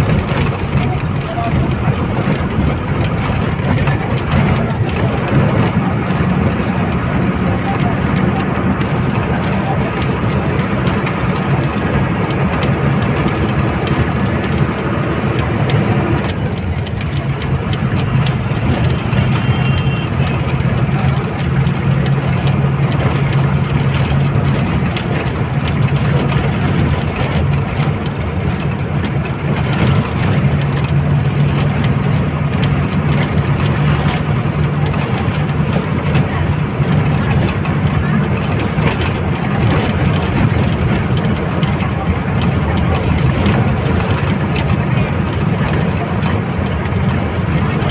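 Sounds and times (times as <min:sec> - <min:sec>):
bus diesel engine droning: 0:00.0 - 0:47.9
road noise: 0:00.0 - 0:47.9.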